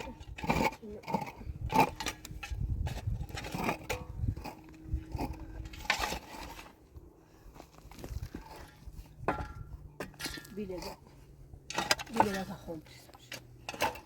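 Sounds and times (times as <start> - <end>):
objects knocking and scraping: 0.0 - 6.8, 7.6 - 14.0.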